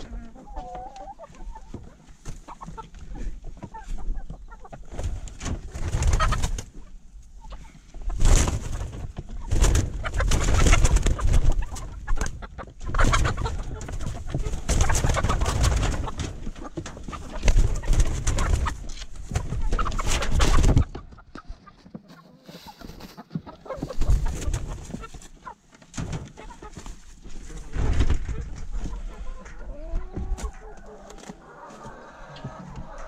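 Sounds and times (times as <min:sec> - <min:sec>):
wings flapping and scuffling: 0:00.0 - 0:07.0, 0:08.0 - 0:33.0
hens clucking: 0:00.0 - 0:33.0.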